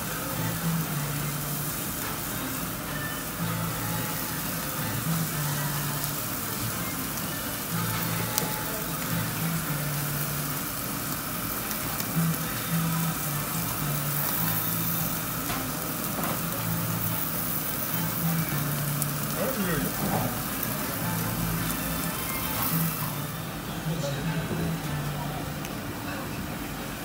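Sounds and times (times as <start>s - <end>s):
meat and onions sizzling on a grill: 0.0s - 25.3s
low background music: 0.0s - 27.0s.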